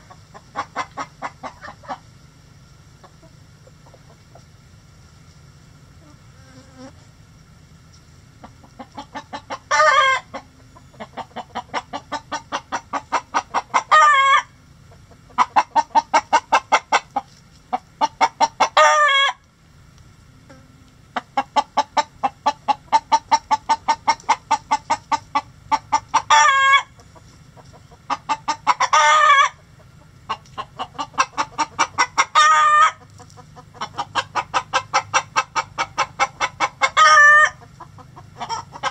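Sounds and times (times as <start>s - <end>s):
chicken clucking and squawking: 0.0s - 4.7s, 5.8s - 7.1s, 8.4s - 19.5s, 20.5s - 38.9s.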